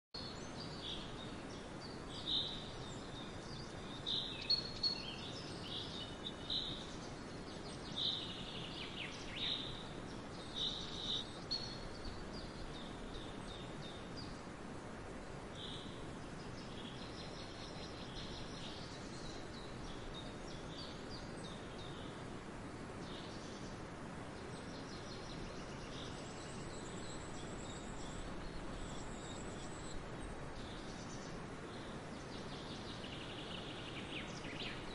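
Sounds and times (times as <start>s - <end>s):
wind rustling through field: 0.2s - 34.9s.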